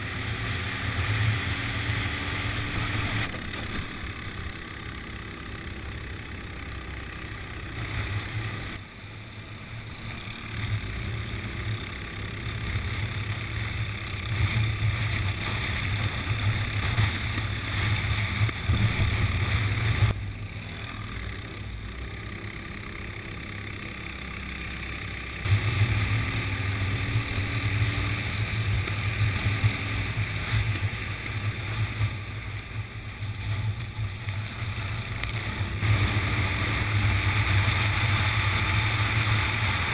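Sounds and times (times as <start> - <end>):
go-kart engine revving: 0.0 - 8.8, 9.4 - 39.9.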